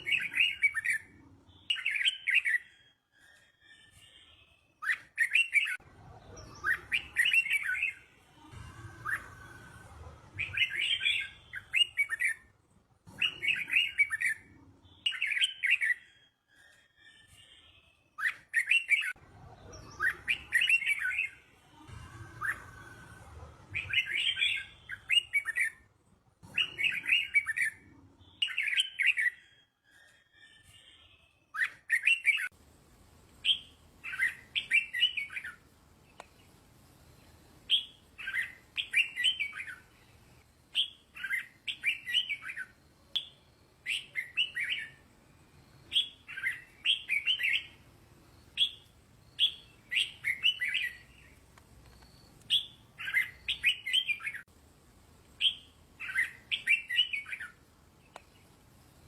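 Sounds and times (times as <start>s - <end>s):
bulbul whistled song: 0.0s - 32.5s, 33.4s - 54.5s, 55.4s - 58.4s.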